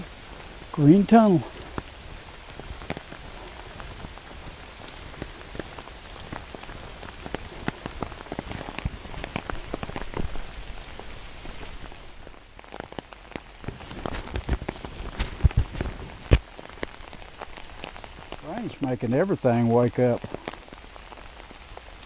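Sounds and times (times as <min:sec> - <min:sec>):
raindrops ticking: 0:00.0 - 0:22.0
steady rain falling: 0:00.0 - 0:22.0.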